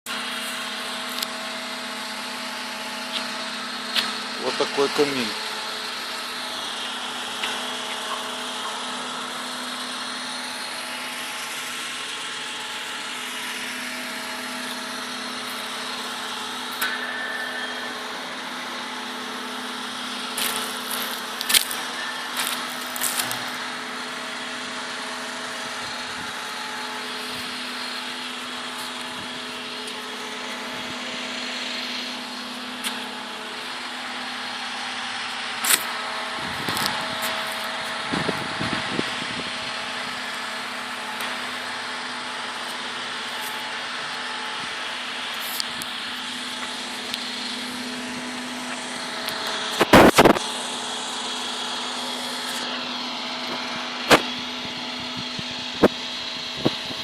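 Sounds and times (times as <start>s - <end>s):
machine hum: 0.1s - 57.0s.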